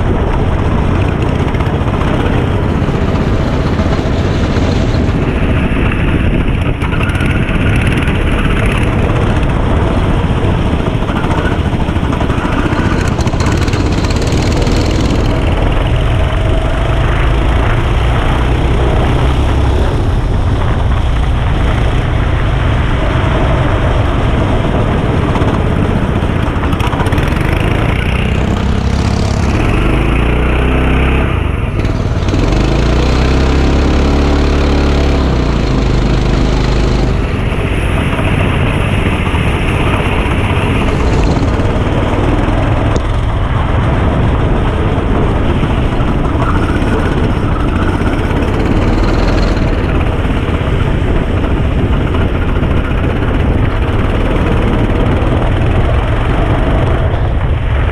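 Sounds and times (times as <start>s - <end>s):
camera microphone rushing noise: 0.0s - 57.9s
go-kart engine revving: 0.0s - 57.9s.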